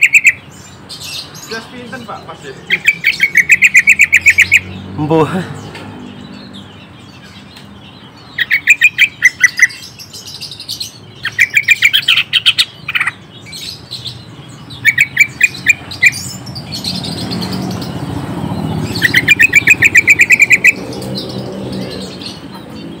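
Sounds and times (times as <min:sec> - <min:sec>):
bird chattering song: 0:00.0 - 0:23.0.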